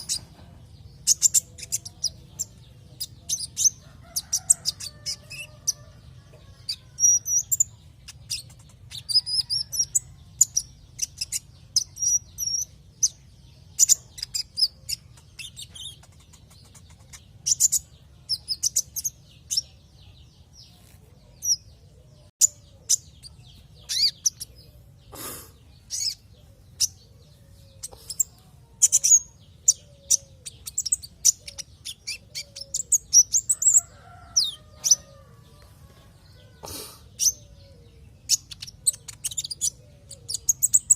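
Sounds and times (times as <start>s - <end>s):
bird chirping and twittering: 0.0s - 40.9s.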